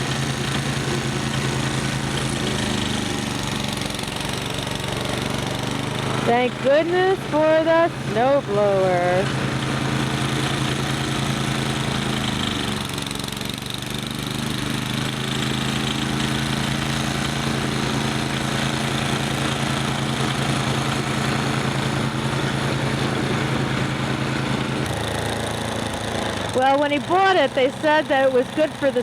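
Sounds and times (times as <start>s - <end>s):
snowblower engine running: 0.0s - 29.0s.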